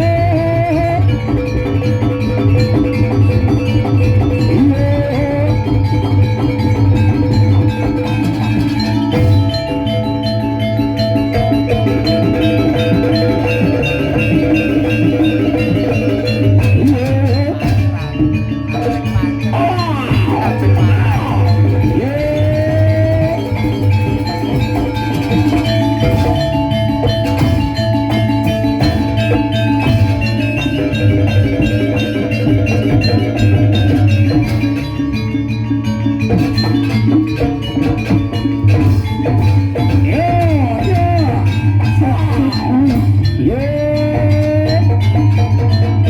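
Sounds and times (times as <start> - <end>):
metal percussion tones: 0.0 - 46.0
sliding melodic line: 0.0 - 46.0
steady drum beat: 0.0 - 46.0.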